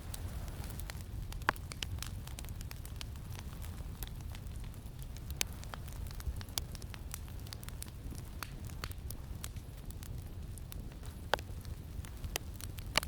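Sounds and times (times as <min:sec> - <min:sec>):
campfire crackling and popping: 0:00.0 - 0:13.0
low wind rumble: 0:00.0 - 0:13.0.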